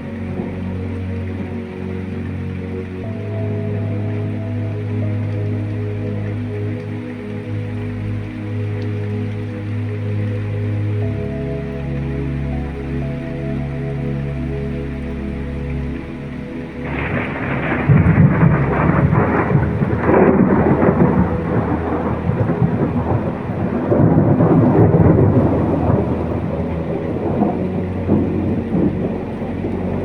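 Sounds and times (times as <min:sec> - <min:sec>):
steady rain: 0:00.0 - 0:30.0
thunder rumbling: 0:00.0 - 0:30.0.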